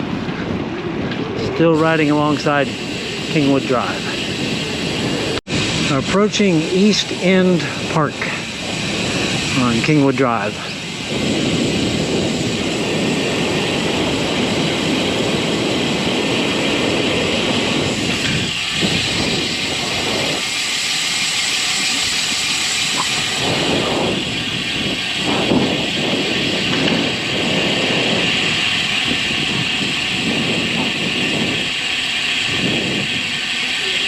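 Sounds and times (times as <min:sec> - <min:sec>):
bicycle tyre road noise: 0:00.0 - 0:34.0
wind rushing over microphone: 0:00.0 - 0:34.0.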